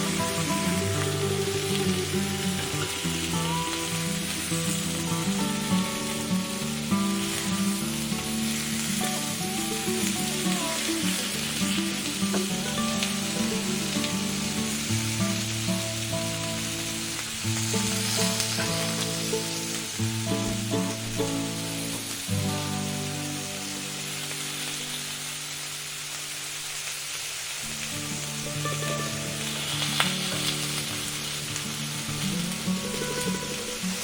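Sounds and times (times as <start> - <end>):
background music: 0.0 - 24.8, 28.0 - 34.0
food sizzling in oil: 0.0 - 34.0.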